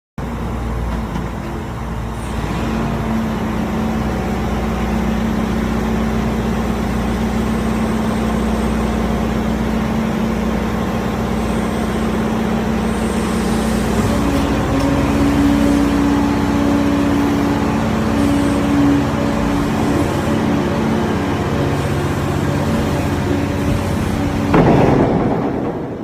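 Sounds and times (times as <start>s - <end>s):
excavator diesel engine running: 0.2s - 26.0s.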